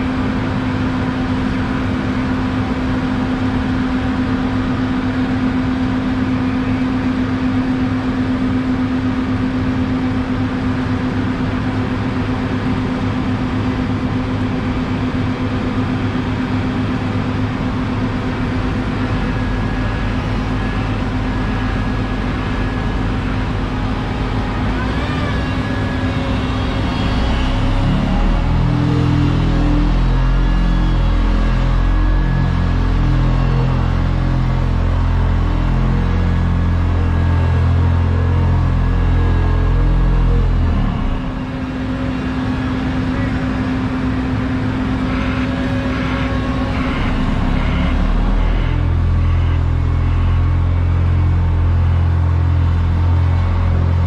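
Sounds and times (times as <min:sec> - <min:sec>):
asphalt roller engine running: 0:00.0 - 0:54.0.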